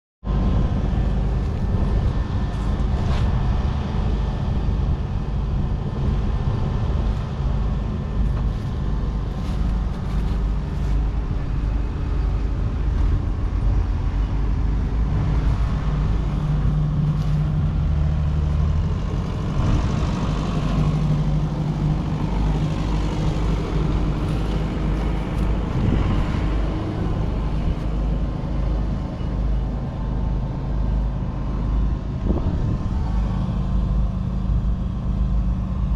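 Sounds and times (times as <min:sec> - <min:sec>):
tractor diesel engine running: 0:00.3 - 0:35.9.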